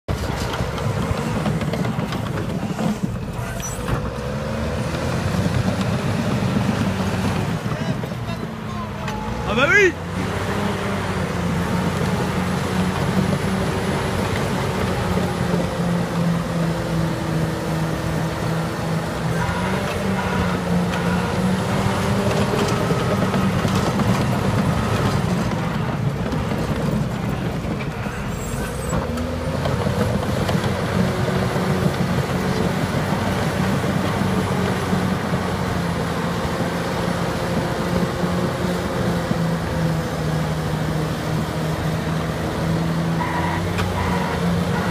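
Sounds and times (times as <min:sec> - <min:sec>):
bulldozer diesel engine under load: 0:00.1 - 0:44.9
other earthmoving machines running: 0:00.1 - 0:44.9.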